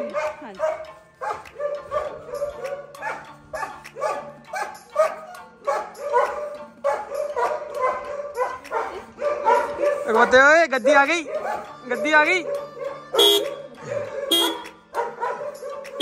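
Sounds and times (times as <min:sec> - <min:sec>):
dog barking: 0:00.0 - 0:11.8, 0:12.4 - 0:16.0.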